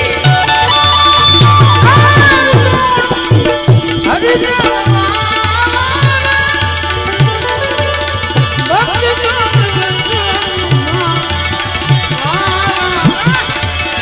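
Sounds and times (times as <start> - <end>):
hand drums beat: 0.0 - 14.0
harmonium holding notes: 0.0 - 14.0
man singing into microphone: 1.8 - 14.0.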